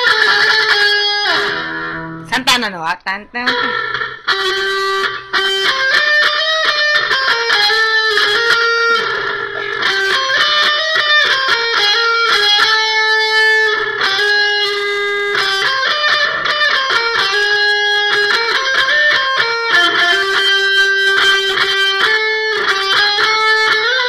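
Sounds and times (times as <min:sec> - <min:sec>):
electric guitar melody: 0:00.0 - 0:24.0.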